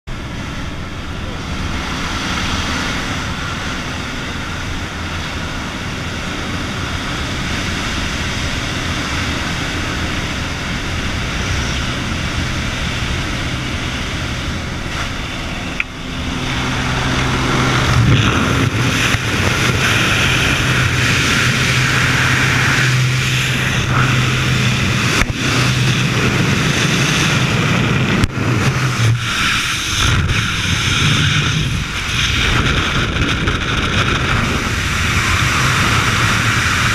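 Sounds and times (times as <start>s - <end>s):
plane engine and propeller droning: 0.1s - 36.9s
rushing air: 0.1s - 36.9s
wind gusting on camera: 0.1s - 36.9s.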